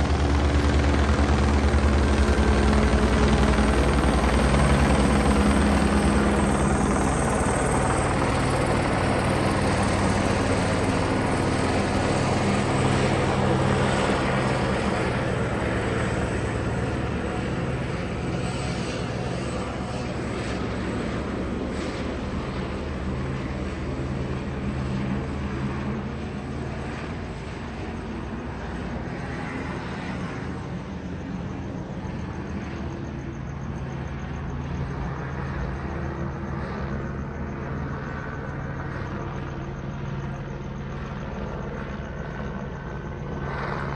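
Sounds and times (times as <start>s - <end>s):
helicopter rotors and engine: 0.0s - 43.9s.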